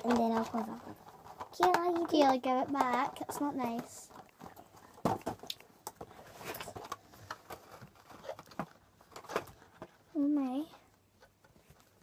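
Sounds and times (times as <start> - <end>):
small clicks and knocks: 0.0 - 10.0.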